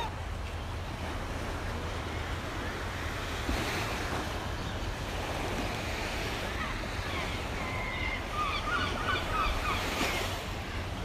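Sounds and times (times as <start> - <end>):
lake waves washing ashore: 0.0 - 11.0.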